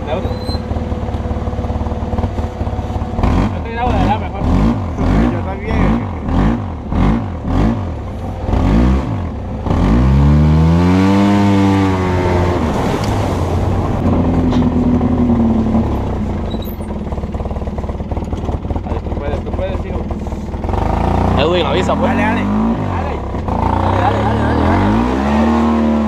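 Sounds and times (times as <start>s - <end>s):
vehicle engine revving: 0.0s - 26.0s.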